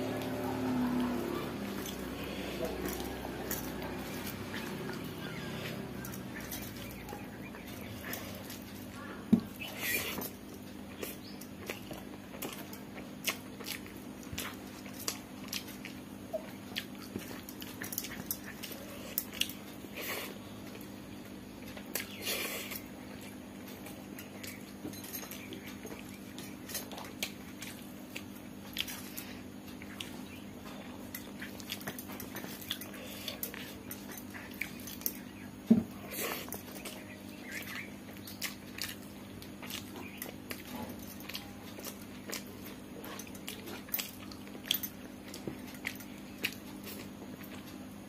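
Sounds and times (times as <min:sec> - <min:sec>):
person chewing: 0:00.0 - 0:48.0
steady low hum: 0:00.0 - 0:48.0.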